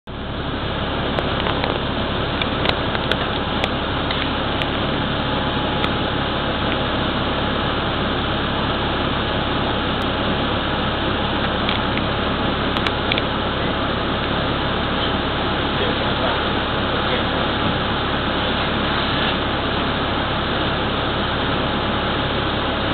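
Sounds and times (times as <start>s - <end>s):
bus idling: 0.0s - 22.9s.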